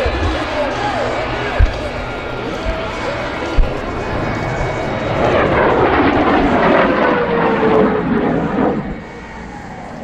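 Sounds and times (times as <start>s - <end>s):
jet roaring overhead: 0.0s - 10.0s.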